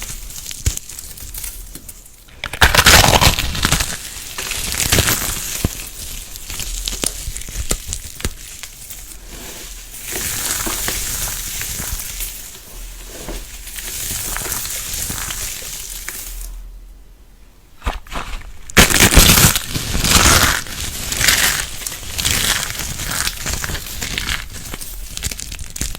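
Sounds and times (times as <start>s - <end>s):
soft material crunching: 0.0s - 16.9s, 17.8s - 25.9s.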